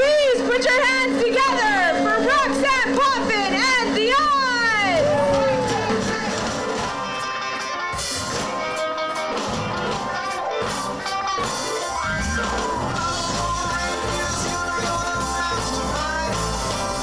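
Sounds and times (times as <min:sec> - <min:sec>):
electric guitar: 0:00.0 - 0:17.0
drum kit: 0:03.0 - 0:17.0.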